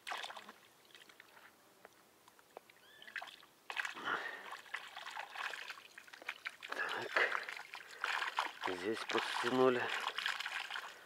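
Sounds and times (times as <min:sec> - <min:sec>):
water sloshing and splashing: 0:00.0 - 0:01.6, 0:02.7 - 0:11.0.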